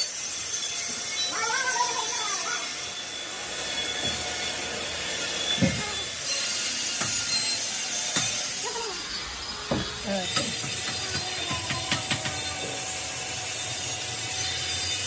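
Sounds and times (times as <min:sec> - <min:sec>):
metalworking machinery whine: 0:00.0 - 0:15.0.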